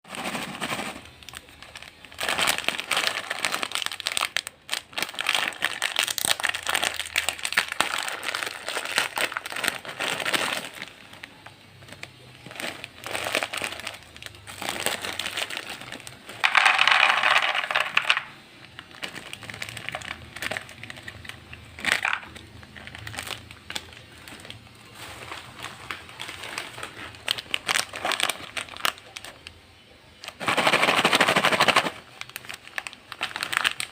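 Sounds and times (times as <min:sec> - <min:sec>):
plastic snack packet crinkling: 0:00.1 - 0:33.9.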